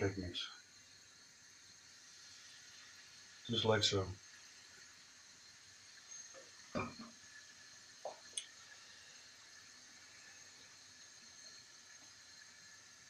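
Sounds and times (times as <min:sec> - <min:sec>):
batter sizzling in butter: 0:00.0 - 0:13.0.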